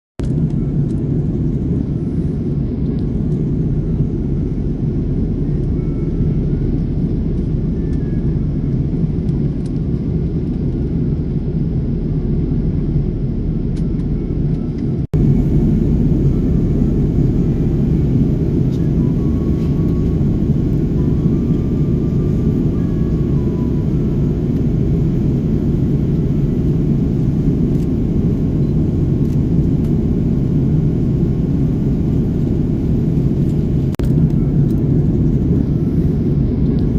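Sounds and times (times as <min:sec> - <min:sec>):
airliner cabin noise: 0:00.2 - 0:36.9.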